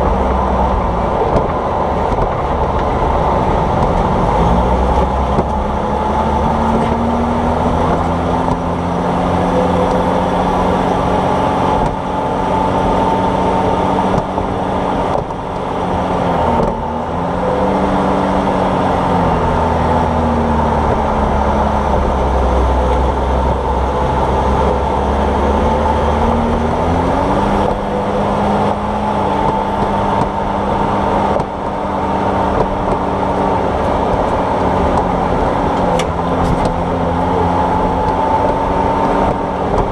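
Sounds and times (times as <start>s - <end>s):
engine hum: 0.0s - 39.9s
road and tyre noise: 0.0s - 39.9s.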